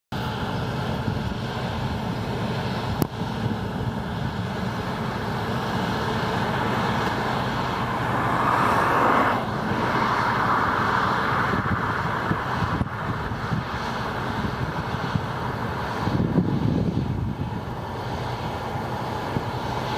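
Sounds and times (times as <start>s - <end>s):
diesel engine hum: 0.1s - 19.9s.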